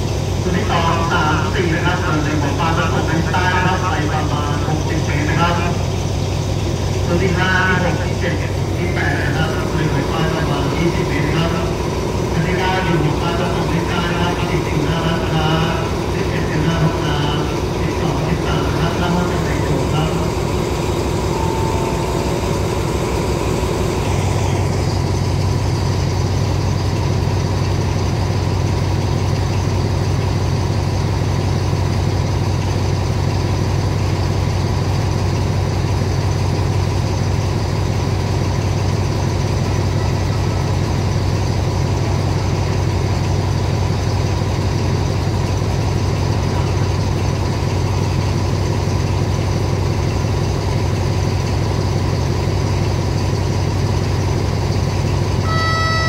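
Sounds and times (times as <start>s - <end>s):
locomotive engine idling: 0.0s - 56.0s.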